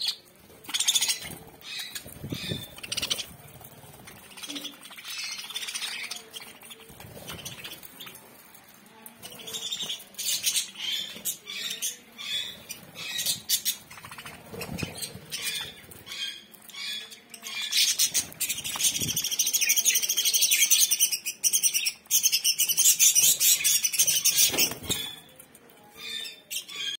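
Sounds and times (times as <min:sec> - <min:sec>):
budgerigars chirping and chattering: 0:00.0 - 0:08.3, 0:09.2 - 0:27.0.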